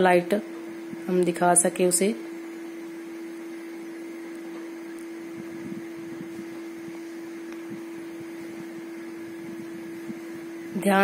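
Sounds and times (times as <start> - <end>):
mid-low hum: 0.0 - 11.0.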